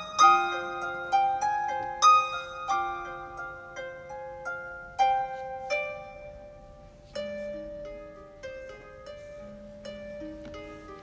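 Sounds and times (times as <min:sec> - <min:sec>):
slow plucked string melody: 0:00.0 - 0:11.0.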